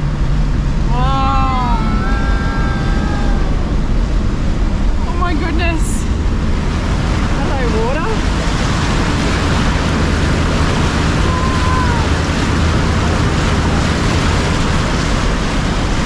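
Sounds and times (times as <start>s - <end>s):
vehicle engine running low: 0.0s - 16.0s
water splashing against vehicle: 0.0s - 16.0s.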